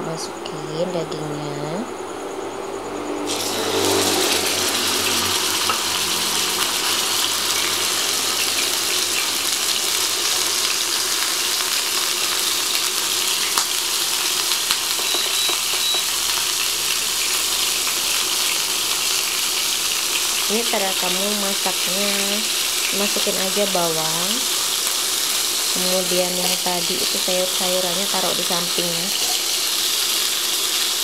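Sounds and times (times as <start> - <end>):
steak sizzling in a frying pan: 3.3 - 31.0.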